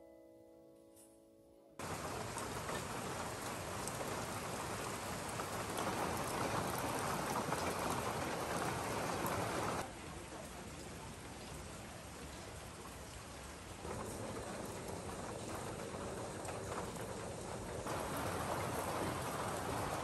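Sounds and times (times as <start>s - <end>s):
heavy rain falling: 1.8s - 20.0s.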